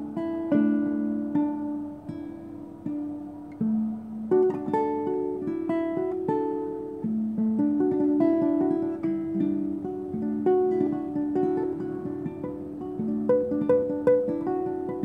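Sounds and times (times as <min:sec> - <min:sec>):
fingerstyle classical guitar: 0:00.0 - 0:15.0.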